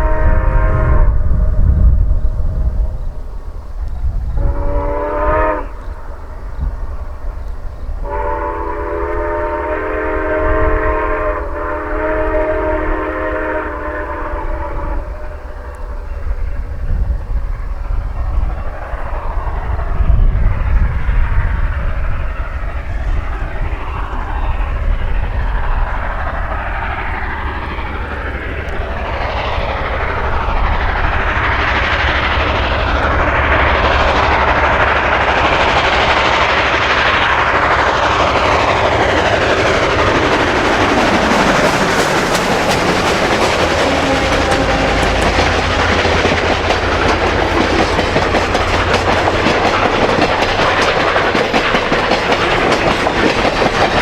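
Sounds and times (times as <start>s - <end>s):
low rumble of passing train: 0.0s - 54.0s
train wheels clicking over rail joints: 0.0s - 54.0s.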